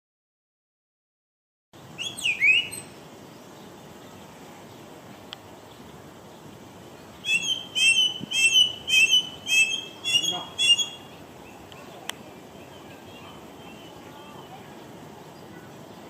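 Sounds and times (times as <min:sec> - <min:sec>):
songbird singing: 0:01.8 - 0:16.0.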